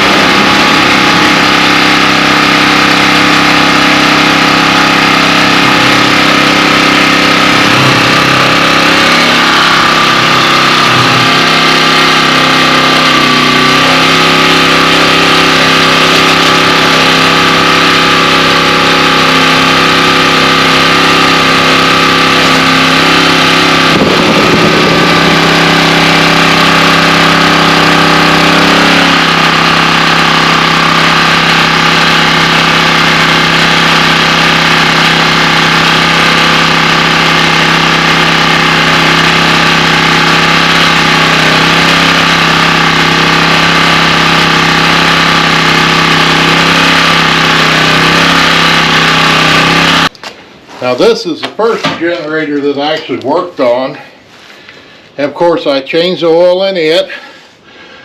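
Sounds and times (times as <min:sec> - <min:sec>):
generator engine running: 0:00.0 - 0:58.0.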